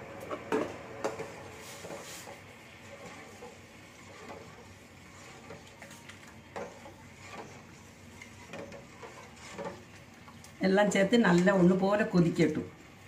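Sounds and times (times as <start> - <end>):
ladle scraping a pot: 0.3 - 11.8.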